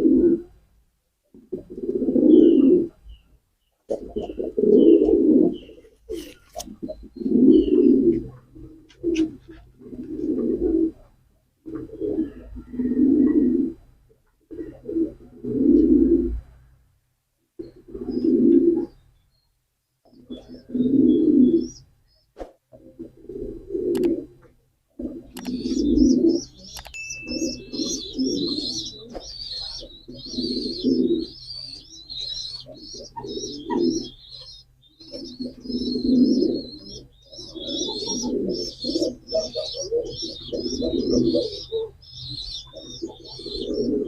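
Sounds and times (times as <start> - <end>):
pigeons cooing: 0.0 - 0.6, 1.4 - 3.2, 3.9 - 13.8, 14.5 - 16.4, 17.6 - 19.0, 20.1 - 44.0.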